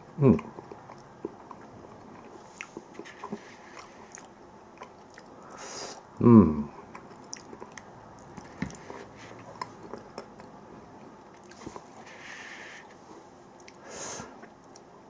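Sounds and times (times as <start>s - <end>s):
person chewing: 0.3s - 5.6s, 6.8s - 13.0s, 13.6s - 14.9s.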